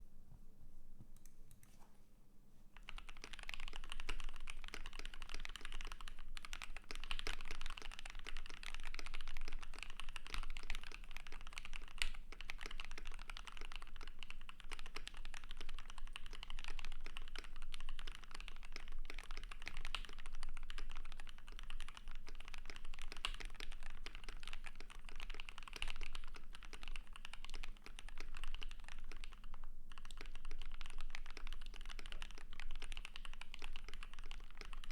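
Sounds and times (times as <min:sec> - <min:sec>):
fast typing on mechanical keyboard: 0:02.8 - 0:34.9.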